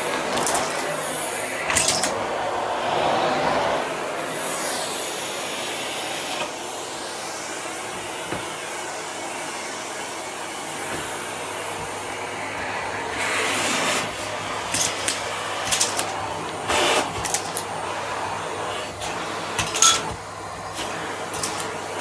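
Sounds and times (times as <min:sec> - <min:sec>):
vacuum cleaner running: 0:00.0 - 0:22.0
vacuum nozzle rushing on carpet: 0:00.0 - 0:22.0.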